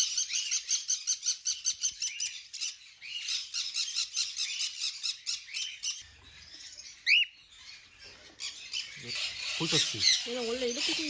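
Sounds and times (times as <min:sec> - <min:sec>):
parrots chirping: 0:00.0 - 0:11.0.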